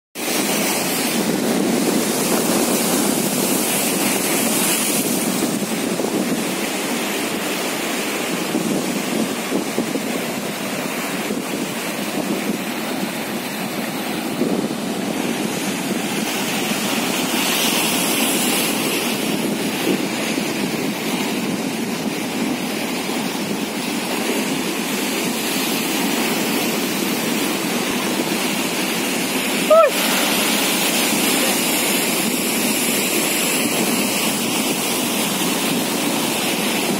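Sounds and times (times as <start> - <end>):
surf washing over rocks: 0.2 - 36.9.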